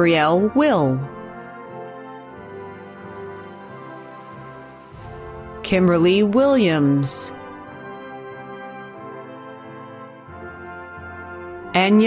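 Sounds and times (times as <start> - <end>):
soft slow background music: 0.0 - 12.0.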